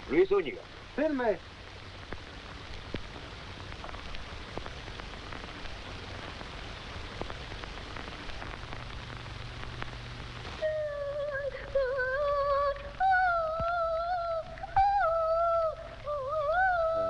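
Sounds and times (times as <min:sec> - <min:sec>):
film soundtrack hiss and crackle: 0:00.0 - 0:17.0
low hum: 0:00.0 - 0:17.0.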